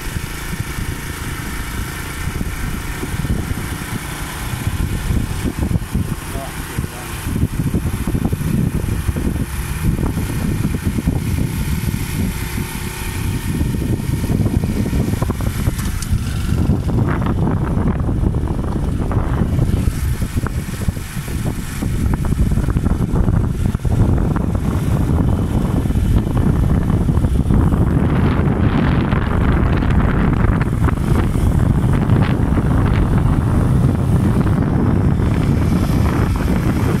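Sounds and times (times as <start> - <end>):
motor vehicle running: 0.0 - 37.0
wind rumble on microphone: 0.0 - 37.0.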